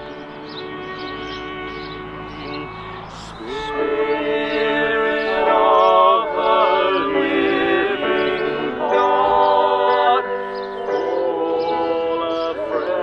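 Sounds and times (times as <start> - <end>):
voices singing worship song: 0.0 - 13.0.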